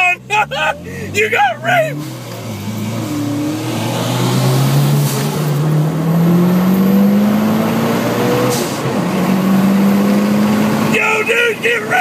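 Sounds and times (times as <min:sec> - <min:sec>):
car engine under full throttle: 0:00.0 - 0:12.0.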